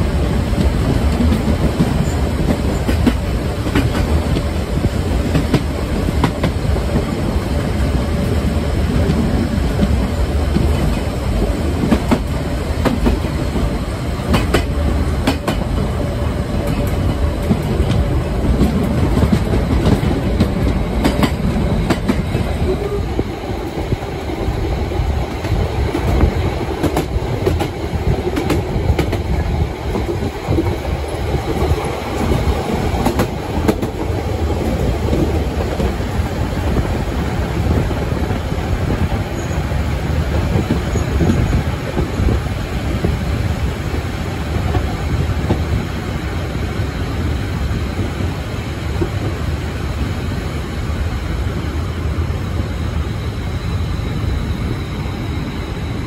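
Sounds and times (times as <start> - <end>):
train wheels clattering on track: 0.0 - 56.0.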